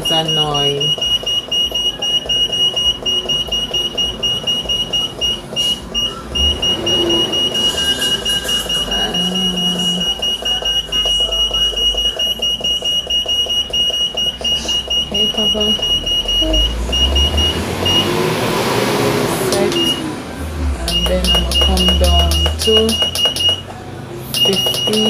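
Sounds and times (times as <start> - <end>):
rapid high buzzer beeps: 0.0 - 18.3, 19.5 - 20.1, 20.8 - 23.7, 24.3 - 25.0.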